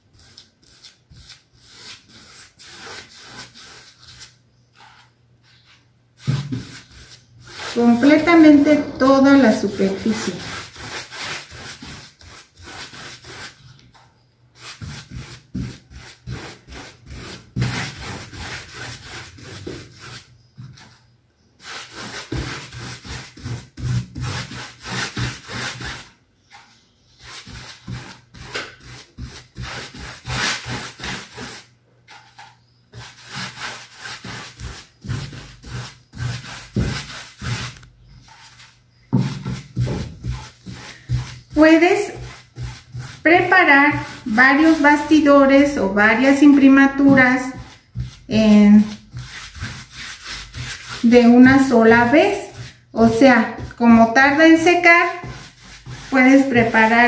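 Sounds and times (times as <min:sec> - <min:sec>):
paintbrush scrubbing canvas: 0:00.0 - 0:14.0, 0:14.6 - 0:21.0, 0:21.6 - 0:57.0.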